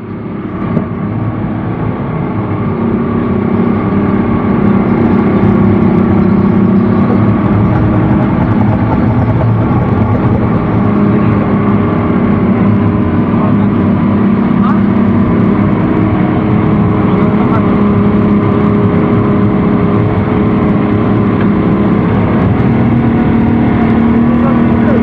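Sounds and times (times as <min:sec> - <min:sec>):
speedboat engine running hard: 0:00.0 - 0:25.0.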